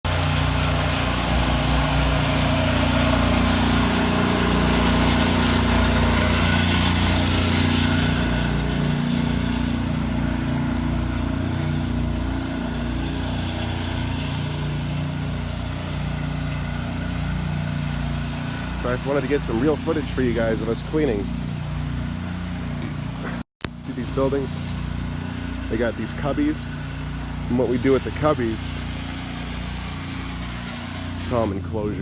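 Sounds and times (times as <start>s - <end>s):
pressure washer engine running: 0.0s - 32.0s
broad hiss: 0.2s - 21.7s, 22.8s - 32.0s.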